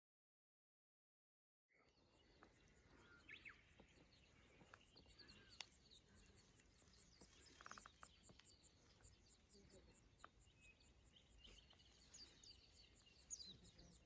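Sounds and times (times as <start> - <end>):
bird chirps: 1.7 - 14.0
bird trill: 1.8 - 14.0.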